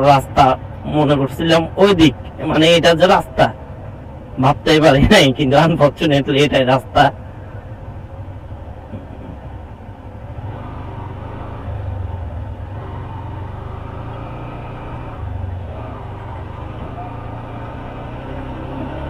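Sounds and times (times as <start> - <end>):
motorcycle engine rumble: 0.0 - 19.0
road and wind noise: 0.0 - 19.0.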